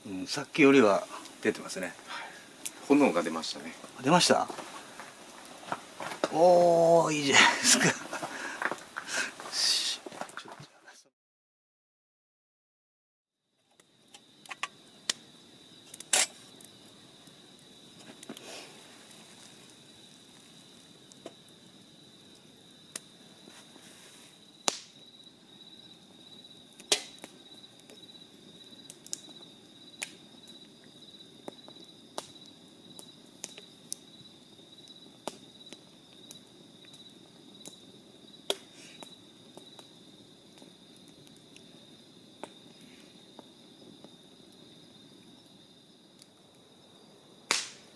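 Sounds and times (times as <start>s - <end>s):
campfire pops and cracks: 0.0s - 10.7s, 13.6s - 47.9s
crickets chirping: 0.0s - 11.0s, 13.4s - 47.9s.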